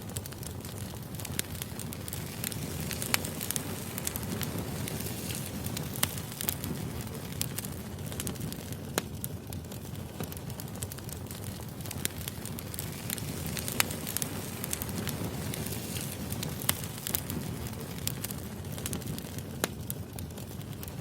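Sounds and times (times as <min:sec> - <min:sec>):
firewood crackling: 0:00.0 - 0:21.0
low rush of flames: 0:00.0 - 0:21.0
sharp pops of burning wood: 0:00.0 - 0:21.0.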